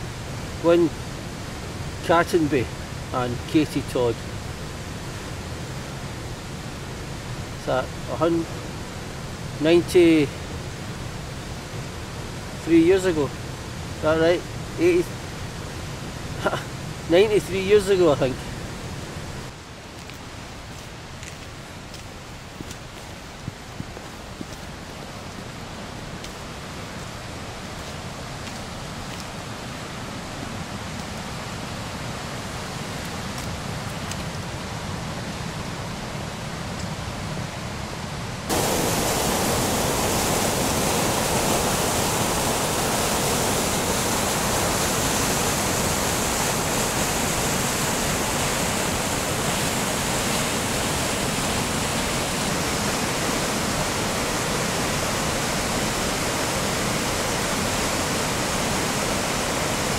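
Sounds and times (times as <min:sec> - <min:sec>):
white water rushing through gorge: 0:00.0 - 0:19.6, 0:24.2 - 0:59.9.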